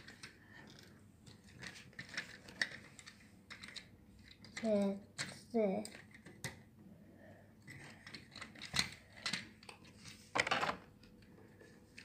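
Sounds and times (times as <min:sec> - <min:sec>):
plastic toy parts clicking: 0:00.0 - 0:06.7, 0:07.6 - 0:11.2.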